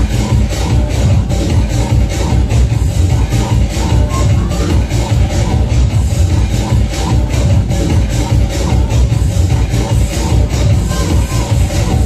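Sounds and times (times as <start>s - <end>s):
loud dance music: 0.0s - 12.0s.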